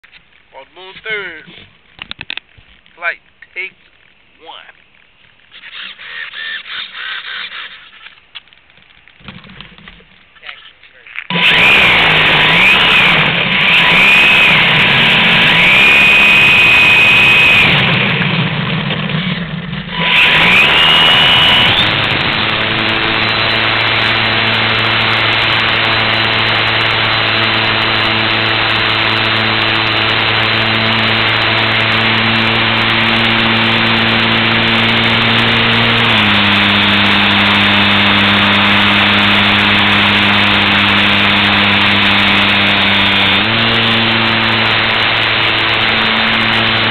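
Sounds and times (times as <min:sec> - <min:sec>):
model plane electric motor whine: 0:05.5 - 0:08.2, 0:11.3 - 0:46.9.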